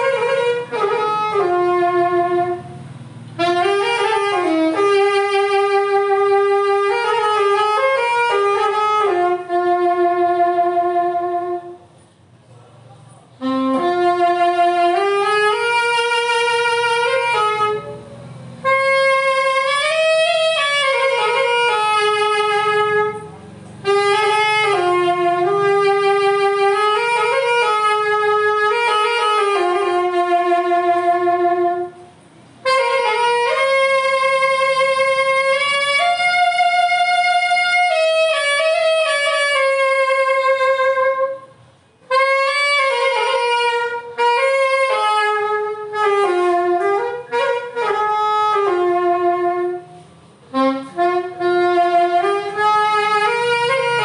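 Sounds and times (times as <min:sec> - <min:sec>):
solo saxophone melody: 0:00.0 - 0:11.9, 0:13.3 - 0:54.0.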